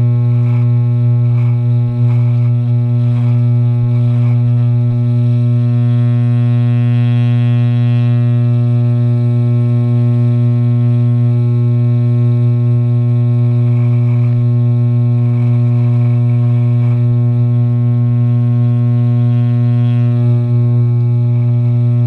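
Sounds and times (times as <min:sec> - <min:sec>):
electric hair clipper buzzing: 0:00.0 - 0:22.0.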